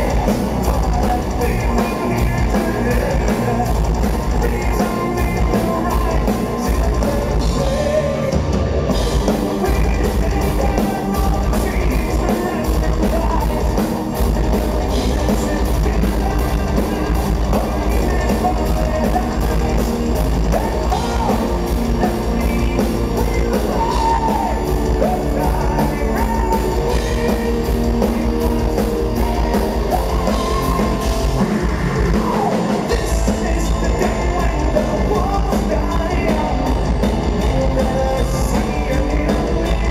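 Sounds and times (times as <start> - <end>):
bass guitar: 0.0 - 39.9
distorted electric guitars: 0.0 - 39.9
drum kit: 0.0 - 39.9
male singer vocals: 0.0 - 39.9.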